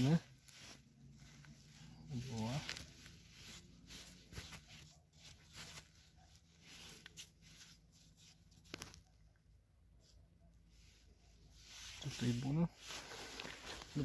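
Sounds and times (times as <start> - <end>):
rustling in dry grass: 0.0 - 9.3, 10.0 - 14.0.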